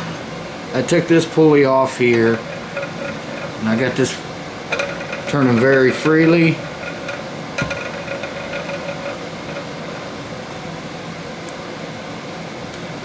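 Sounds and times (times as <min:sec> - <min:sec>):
air conditioner hum: 0:00.0 - 0:13.0.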